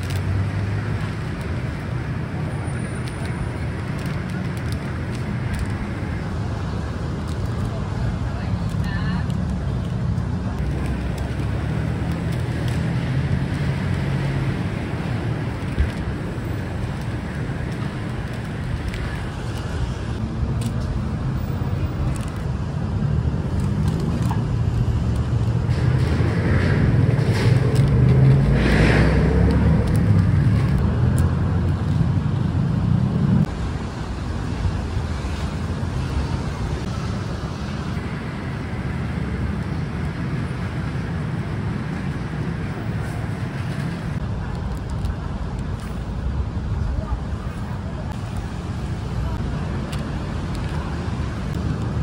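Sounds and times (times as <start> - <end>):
low rumble of street traffic: 0.0 - 52.0.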